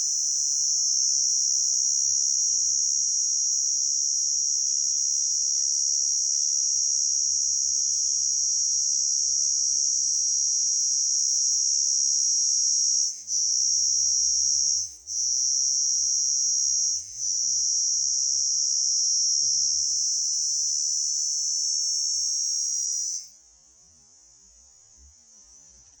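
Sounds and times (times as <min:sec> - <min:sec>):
cricket buzzing: 0:00.0 - 0:23.4.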